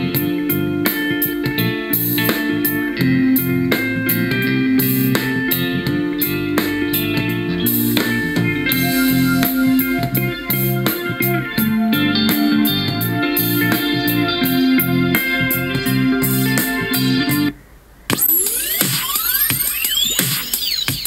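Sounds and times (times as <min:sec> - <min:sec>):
instrumental guitar music from speaker: 0:00.0 - 0:17.6.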